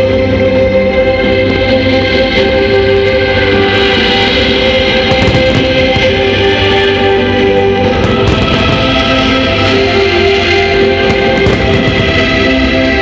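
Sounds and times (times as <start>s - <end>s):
music with long held chords: 0.0s - 13.0s.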